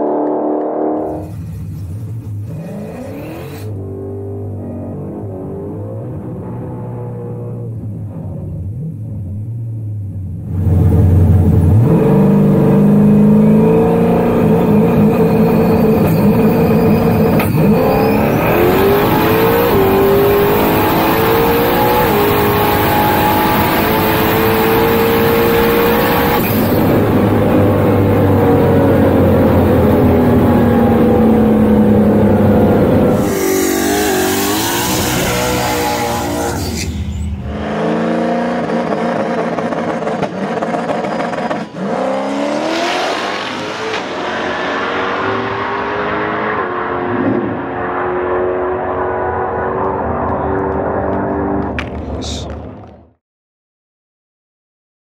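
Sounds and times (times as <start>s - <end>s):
car engine at full throttle: 0.0s - 52.8s.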